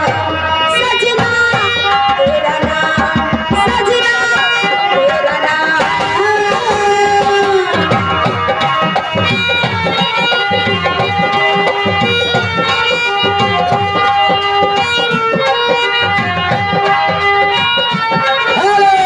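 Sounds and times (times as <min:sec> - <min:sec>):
fast drum rhythm: 0:00.0 - 0:19.0
held melody line: 0:00.0 - 0:19.0.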